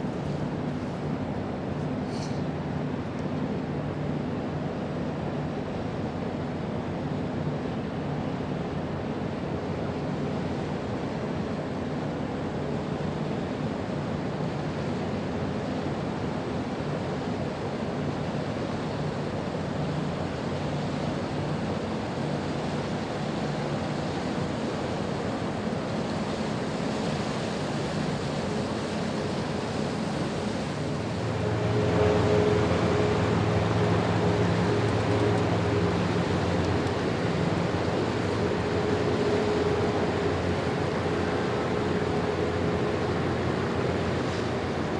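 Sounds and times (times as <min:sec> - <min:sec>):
low ship engine hum: 0:00.0 - 0:44.9
water noise: 0:00.0 - 0:44.9
wind: 0:00.0 - 0:44.9.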